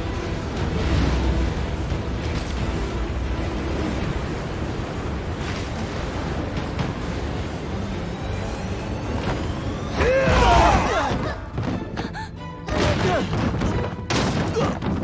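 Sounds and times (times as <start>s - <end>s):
dramatic film score: 0.0s - 15.0s.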